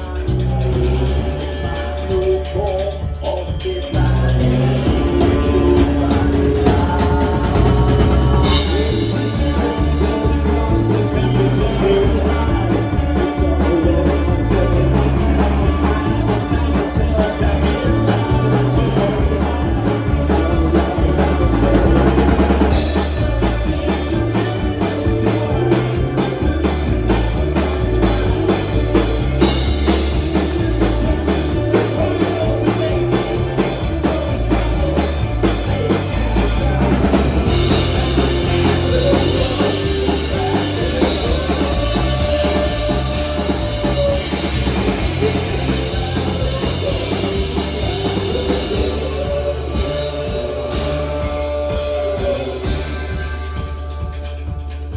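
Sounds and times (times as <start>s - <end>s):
drum kit beat: 0.0s - 54.9s
live band playing: 0.0s - 54.9s.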